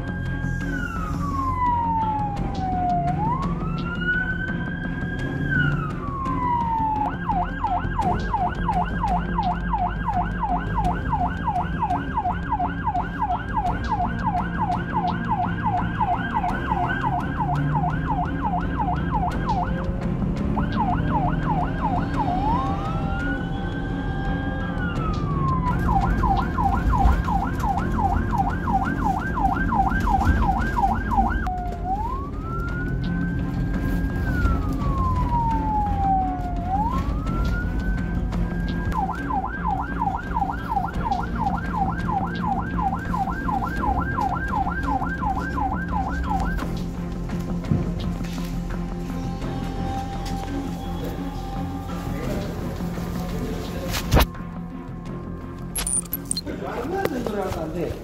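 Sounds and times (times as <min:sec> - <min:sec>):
ambulance siren: 0:00.0 - 0:57.8
engine and road rumble: 0:00.0 - 0:58.0.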